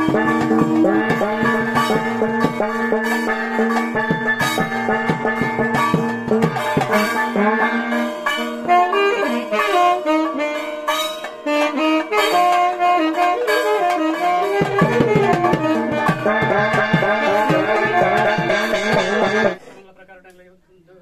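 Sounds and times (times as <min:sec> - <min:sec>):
drumming: 0:00.0 - 0:19.8
wind instrument melody: 0:00.0 - 0:20.0.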